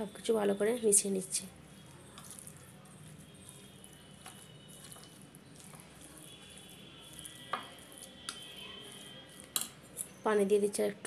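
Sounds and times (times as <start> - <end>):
wet squishing of batter: 0.2 - 10.8.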